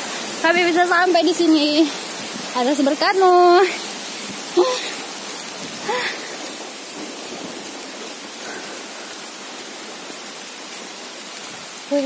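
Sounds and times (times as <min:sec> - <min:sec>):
falling water hiss: 0:00.0 - 0:12.0.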